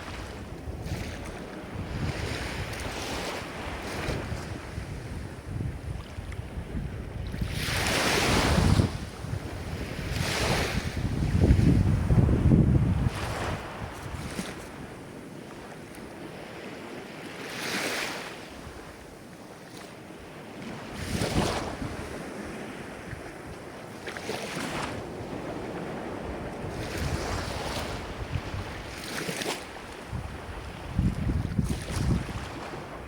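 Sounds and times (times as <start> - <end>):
ocean waves breaking on shore: 0.0 - 33.0.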